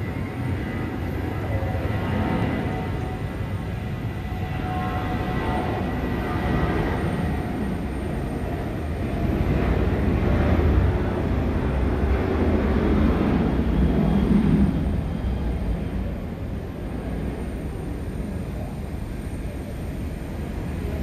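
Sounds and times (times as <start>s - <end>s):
low rumble of aircraft: 0.0s - 21.0s.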